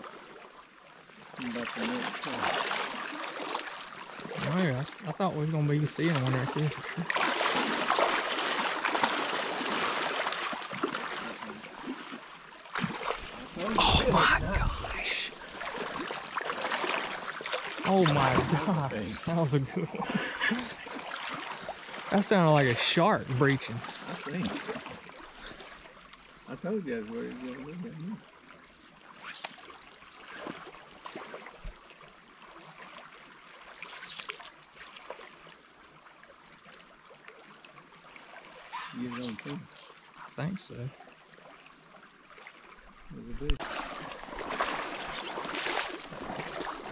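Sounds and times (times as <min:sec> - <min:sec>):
water sloshing around wading legs: 0:00.0 - 0:26.5, 0:27.2 - 0:46.9
small splashes and ticks: 0:00.1 - 0:05.1, 0:05.8 - 0:13.7, 0:15.4 - 0:19.1, 0:23.6 - 0:26.5, 0:28.0 - 0:38.7, 0:39.3 - 0:46.9.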